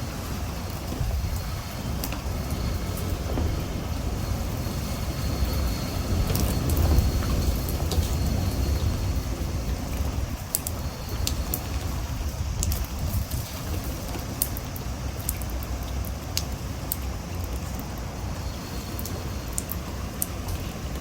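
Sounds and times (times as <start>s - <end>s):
gusty wind buffeting: 0.0s - 21.0s
raindrops ticking: 0.0s - 21.0s
steady rain: 0.0s - 21.0s.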